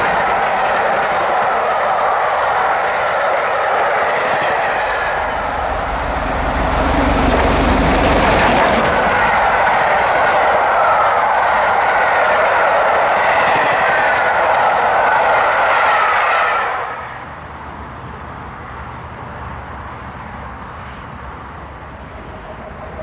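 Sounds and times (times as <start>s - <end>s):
steady background noise: 0.0s - 23.0s
train wheels rushing on rail: 0.0s - 23.0s.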